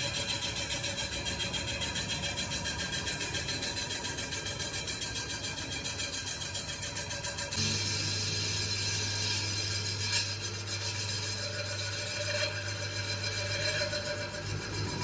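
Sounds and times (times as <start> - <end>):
cutting tool scraping metal: 0.0 - 15.0
lathe motor hum: 0.0 - 15.0.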